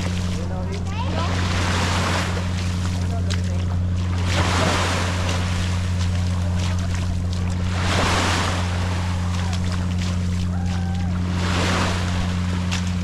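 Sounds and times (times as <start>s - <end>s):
constant low hum: 0.0s - 13.0s
small waves washing on sand: 0.0s - 13.0s.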